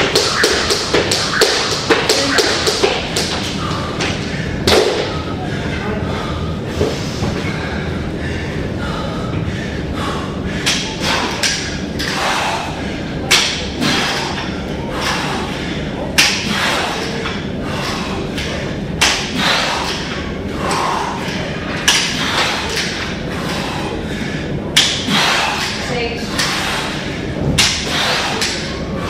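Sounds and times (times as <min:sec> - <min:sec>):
steady background noise: 0:00.0 - 0:29.0.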